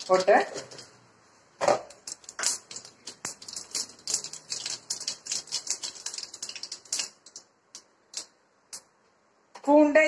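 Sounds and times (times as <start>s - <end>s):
seeds popping in hot oil: 0.0s - 1.0s, 1.6s - 9.0s.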